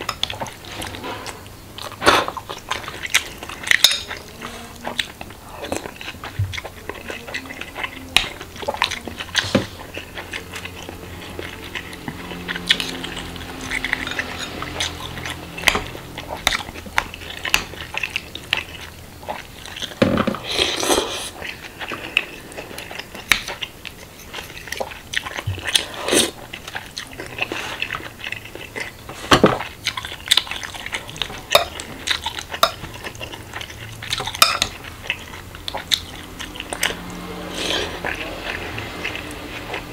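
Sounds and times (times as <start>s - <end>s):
close chewing: 0.0s - 39.9s.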